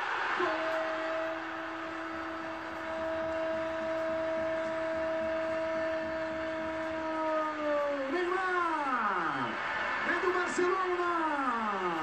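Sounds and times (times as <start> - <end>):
stadium crowd cheering: 0.0 - 12.0.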